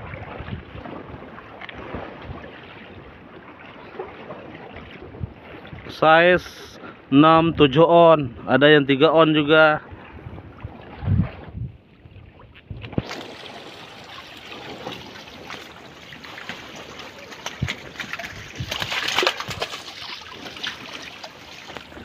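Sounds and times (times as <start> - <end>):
seawater splashing and trickling: 0.0 - 6.7, 9.6 - 22.0.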